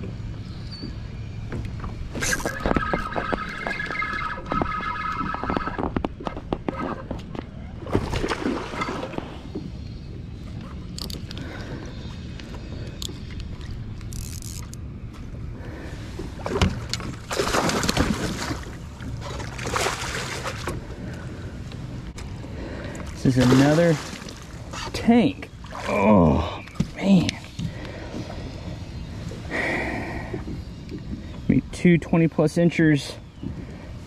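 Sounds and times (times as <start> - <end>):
water splashing and sloshing: 0.0 - 9.8, 10.4 - 31.4
low wind rumble: 0.0 - 34.0.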